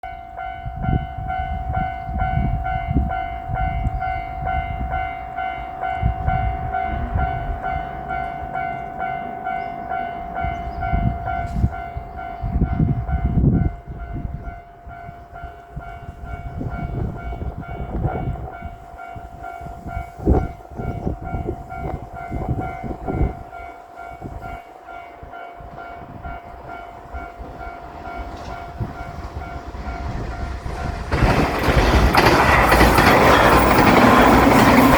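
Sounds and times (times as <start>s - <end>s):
train rumbling: 0.3s - 34.9s.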